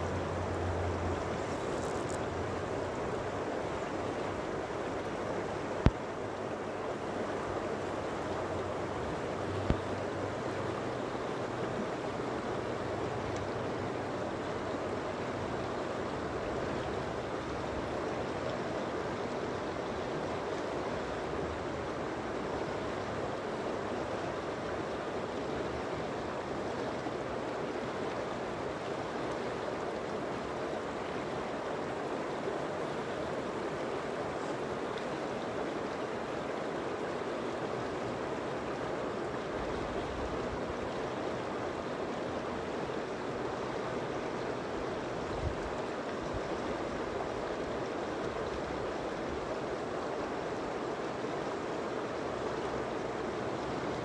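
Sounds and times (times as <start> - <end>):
river babbling over rocks: 0.0 - 54.0.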